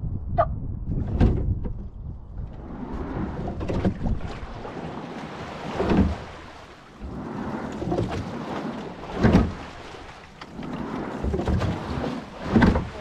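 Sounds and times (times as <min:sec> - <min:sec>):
wind buffeting microphone: 0:00.0 - 0:13.0
oars stroking through water: 0:01.0 - 0:13.0
water rushing along a hull: 0:01.0 - 0:13.0.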